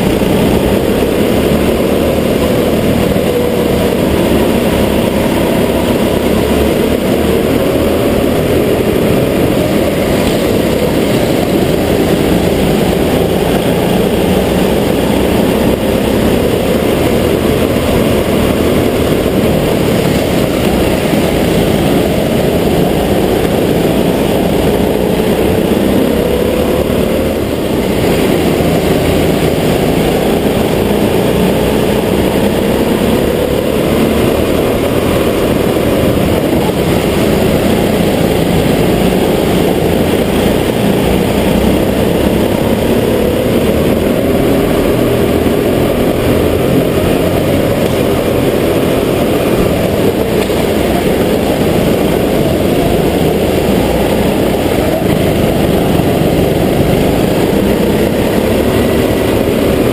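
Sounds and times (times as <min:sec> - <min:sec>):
go-kart engine racing: 0:00.0 - 0:59.9
other kart engines: 0:00.0 - 0:59.9.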